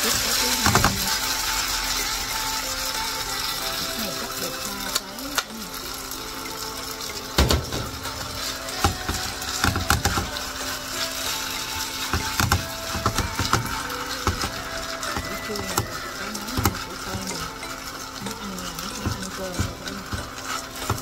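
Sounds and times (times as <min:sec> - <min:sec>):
faint oil sizzling: 0:00.0 - 0:21.0
utensil scraping a frying pan: 0:00.0 - 0:21.0.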